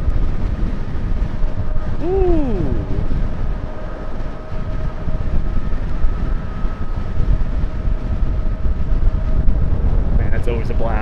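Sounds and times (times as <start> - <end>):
faint steady whine: 0.0 - 11.0
wind buffeting microphone: 0.0 - 11.0.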